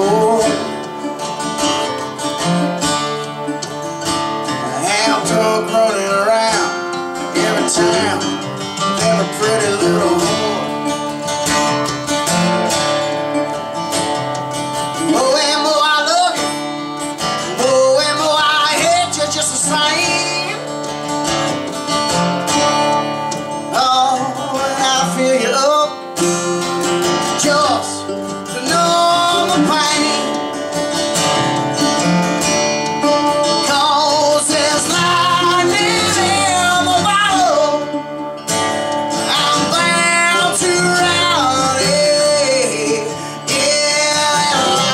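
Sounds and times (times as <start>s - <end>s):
man singing: 0.0s - 2.4s, 4.5s - 11.4s, 14.8s - 20.9s, 22.5s - 32.0s, 32.8s - 44.9s
acoustic guitar strumming: 0.0s - 44.9s.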